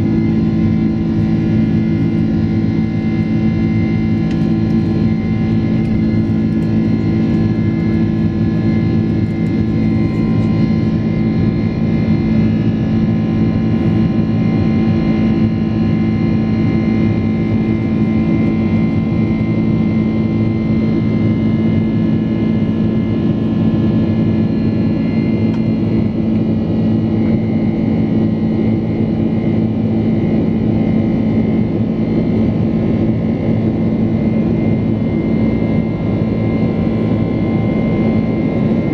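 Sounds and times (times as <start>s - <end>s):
airplane cabin drone: 0.0s - 38.9s
constant low hum: 0.0s - 38.9s.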